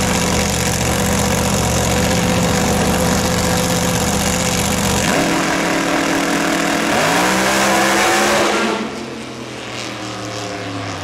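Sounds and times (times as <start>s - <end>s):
drag car engine at full throttle: 0.0s - 11.0s.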